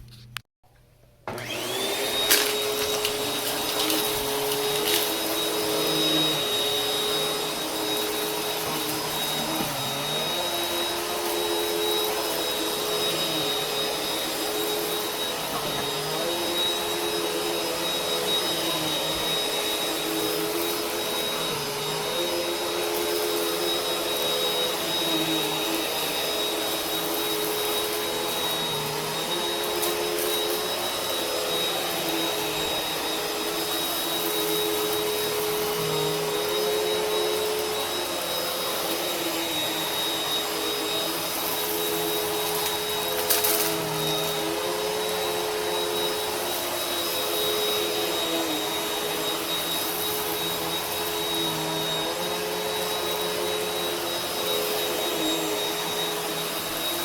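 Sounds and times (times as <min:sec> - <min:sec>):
vacuum cleaner running: 0:01.2 - 0:57.0.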